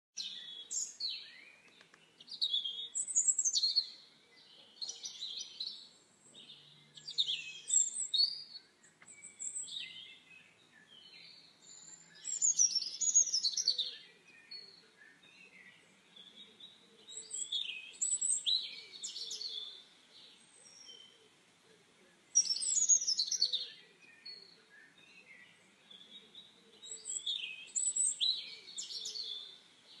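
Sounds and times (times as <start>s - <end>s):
birds chirping and trilling: 0.2s - 30.0s.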